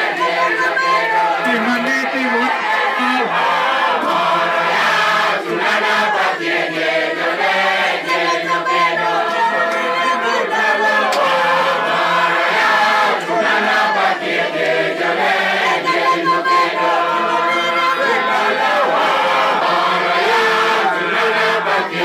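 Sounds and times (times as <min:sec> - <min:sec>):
congregation singing: 0:00.0 - 0:22.0.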